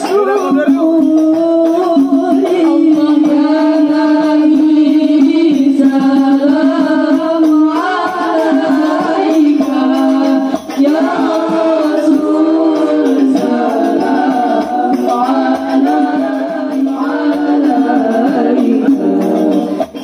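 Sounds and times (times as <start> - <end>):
light percussion: 0.0 - 20.0
voices singing a melody: 0.0 - 20.0.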